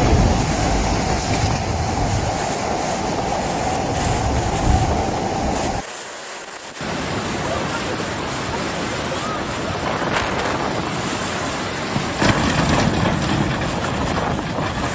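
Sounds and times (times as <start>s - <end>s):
floodwater rushing: 0.0s - 14.9s.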